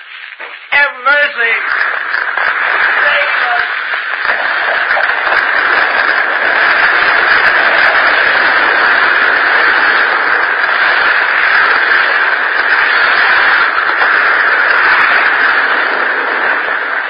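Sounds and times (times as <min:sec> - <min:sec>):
house fire rushing noise: 0:00.0 - 0:17.0.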